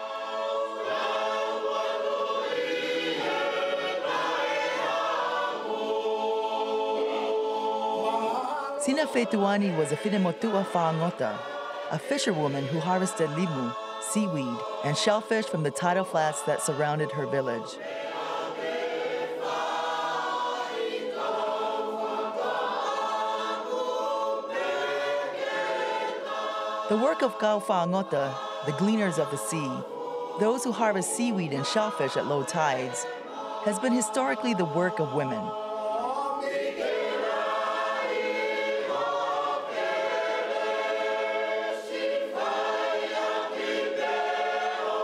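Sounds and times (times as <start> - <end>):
choir singing in harmony: 0.0 - 45.0.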